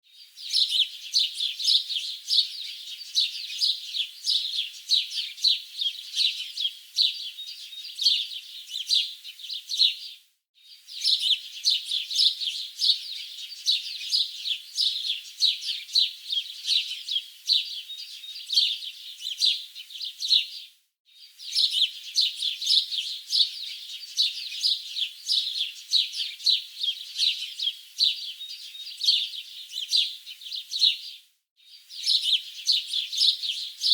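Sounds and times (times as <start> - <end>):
many birds chirping: 0.2 - 10.0, 10.9 - 20.6, 21.4 - 31.2, 31.9 - 33.9.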